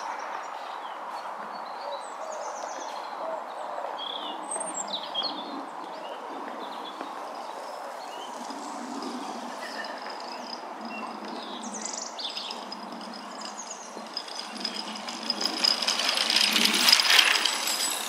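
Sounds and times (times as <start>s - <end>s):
small birds chirping: 0.0s - 14.8s
steady outdoor hiss: 0.0s - 18.0s.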